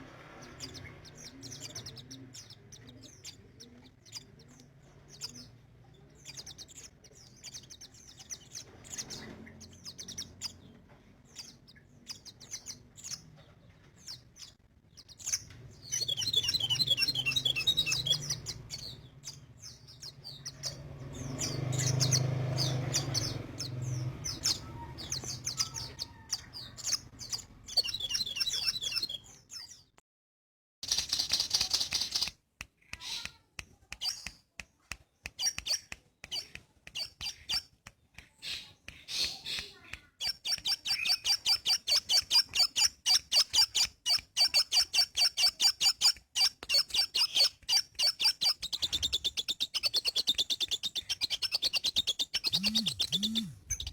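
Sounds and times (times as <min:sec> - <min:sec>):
small bird singing high chirps: 0:00.0 - 0:30.0, 0:30.8 - 0:53.9.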